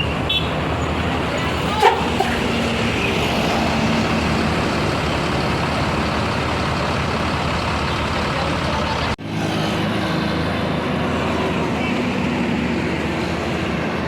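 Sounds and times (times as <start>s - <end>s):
bus engine droning: 0.0s - 14.0s
traffic noise: 0.0s - 14.0s.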